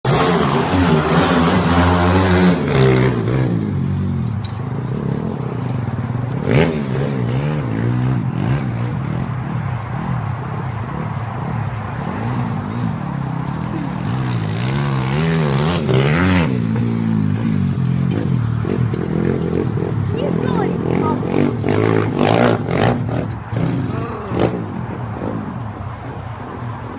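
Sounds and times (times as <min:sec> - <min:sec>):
pit bike engine revving: 0:00.0 - 0:25.6.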